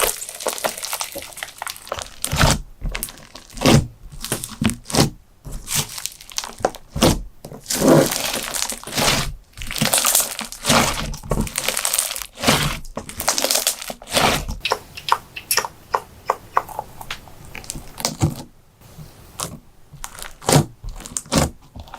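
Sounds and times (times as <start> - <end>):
slime crackling and popping: 0.0 - 5.1, 5.7 - 15.7, 19.4 - 21.9.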